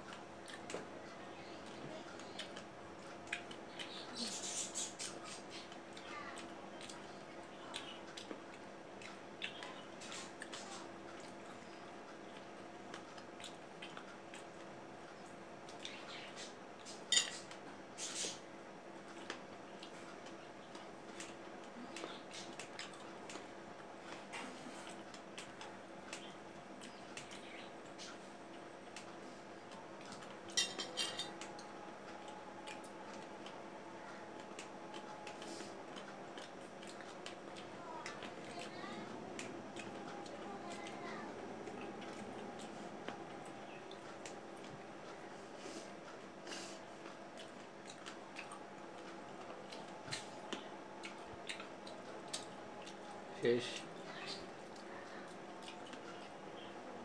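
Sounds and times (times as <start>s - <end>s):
fruit being chewed: 0.0s - 0.9s, 1.6s - 56.8s
steady low hum: 0.0s - 57.0s.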